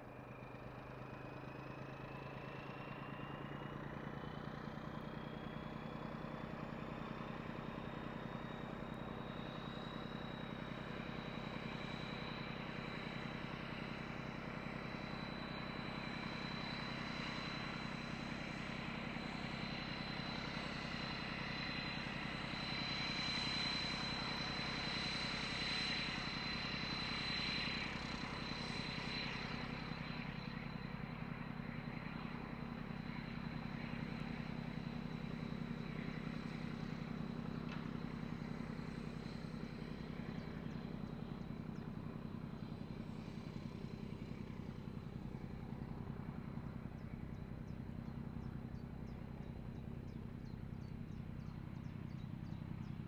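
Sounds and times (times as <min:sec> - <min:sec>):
diesel locomotive engine drone: 0:00.0 - 0:53.0.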